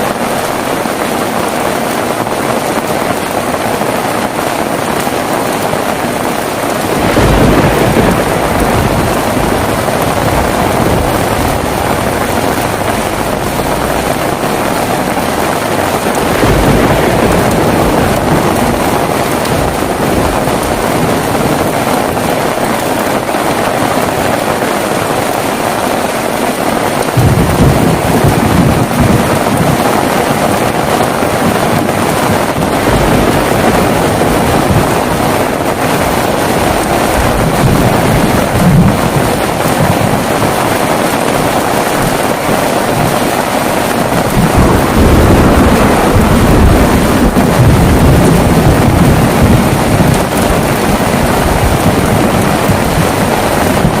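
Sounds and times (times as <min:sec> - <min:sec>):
heavy rain falling: 0:00.0 - 0:54.0
thunder rumbling: 0:00.0 - 0:54.0.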